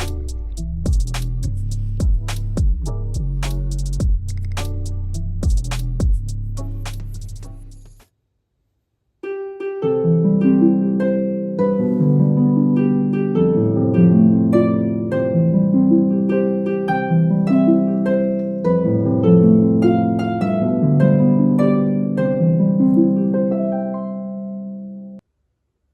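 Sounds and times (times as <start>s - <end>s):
gentle instrumental music: 0.0s - 8.0s, 9.2s - 25.2s.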